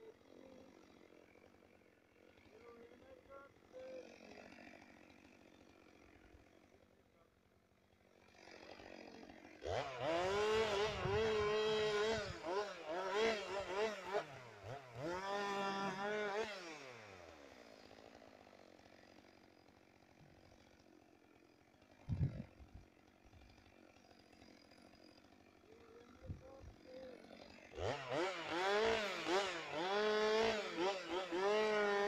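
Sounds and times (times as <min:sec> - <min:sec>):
chainsaw revving: 0:00.0 - 0:32.0.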